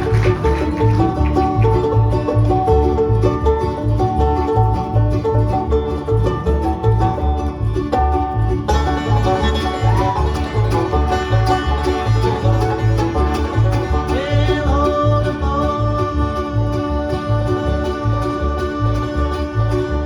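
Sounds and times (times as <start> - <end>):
banjo picking: 0.0 - 20.0
fiddle long sliding notes: 0.0 - 20.0
guitar picking: 0.0 - 20.0
steady bass beat: 0.0 - 20.0.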